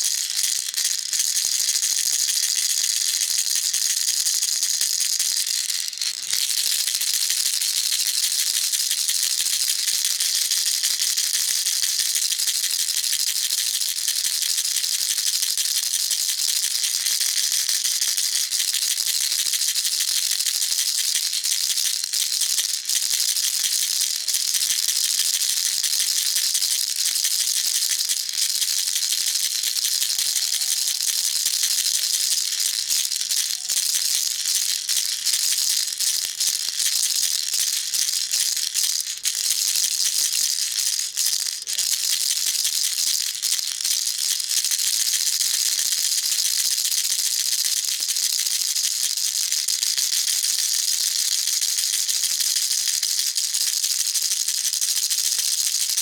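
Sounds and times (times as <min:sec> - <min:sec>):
baby rattle shaking: 0:00.0 - 0:56.0.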